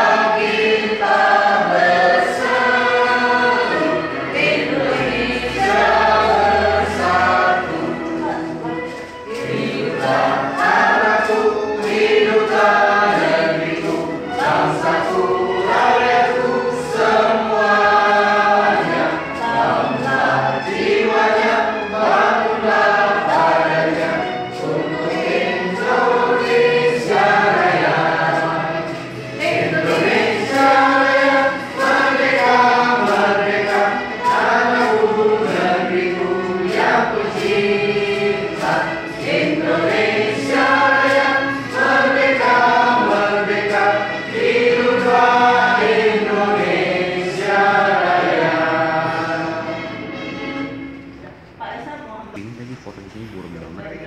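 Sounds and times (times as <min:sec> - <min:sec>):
group singing in unison: 0:00.0 - 0:51.4.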